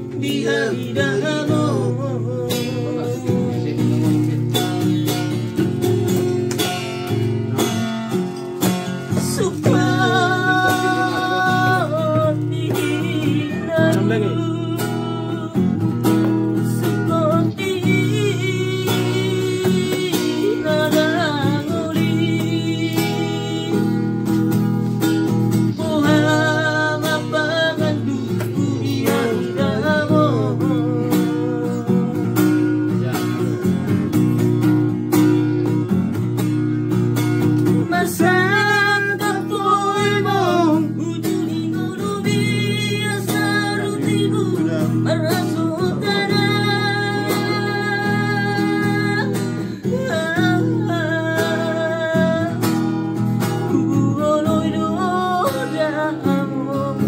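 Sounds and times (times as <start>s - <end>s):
man singing: 0.0s - 34.4s, 37.5s - 57.0s
strummed acoustic guitar: 0.0s - 57.0s.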